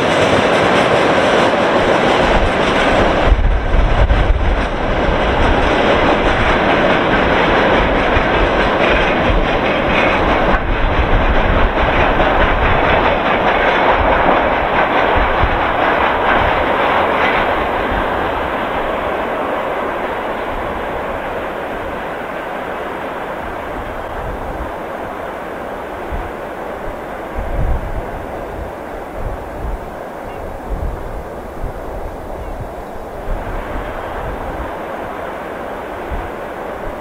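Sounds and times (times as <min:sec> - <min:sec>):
freight train wheels clattering: 0:00.0 - 0:37.0.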